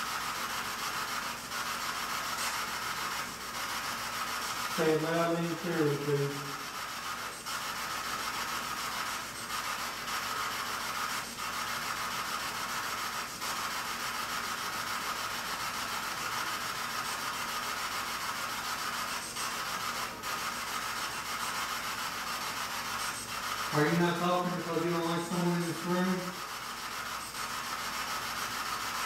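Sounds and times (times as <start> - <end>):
steady rushing hiss: 0.0 - 29.0.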